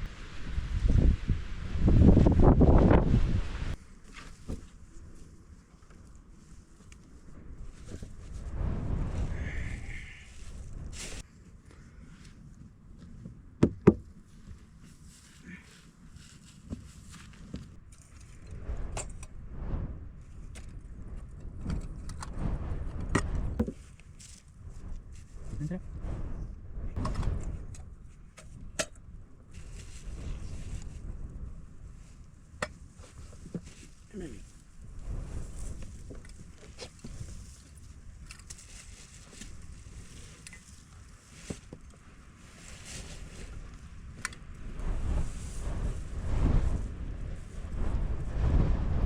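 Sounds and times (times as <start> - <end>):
gusting wind on microphone: 0.0 - 49.0.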